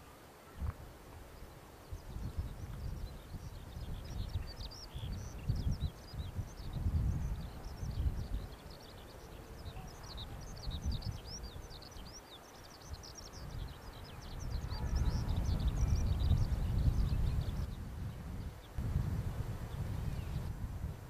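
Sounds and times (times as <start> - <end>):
small birds chirping: 0.0 - 18.8, 19.6 - 20.5.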